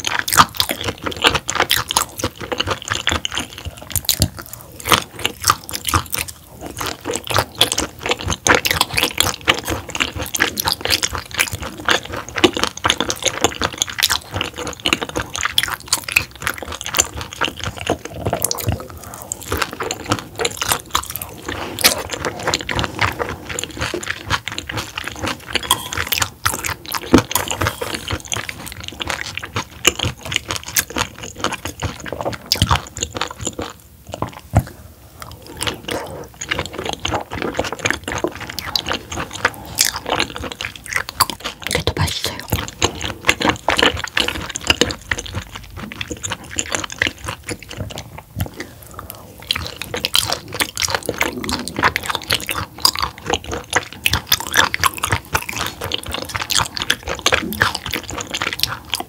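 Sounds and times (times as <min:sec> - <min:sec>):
chewing with small clicks: 0:00.0 - 0:59.0.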